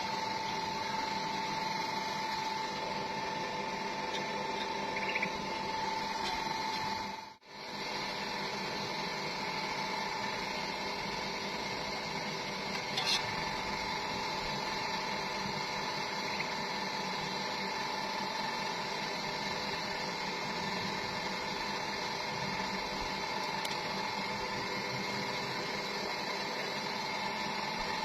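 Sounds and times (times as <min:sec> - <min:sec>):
welding arc sizzling and crackling: 0:00.0 - 0:28.0.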